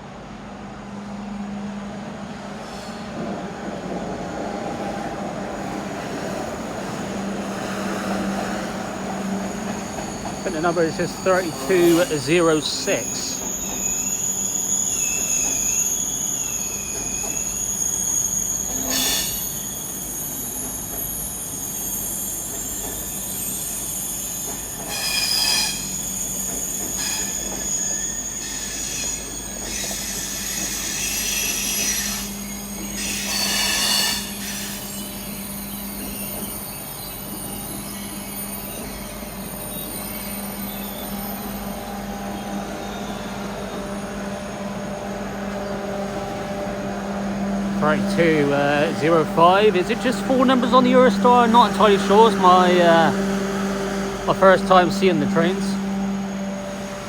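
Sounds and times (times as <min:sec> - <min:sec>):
train electrical whine and hum: 0:00.0 - 0:57.0.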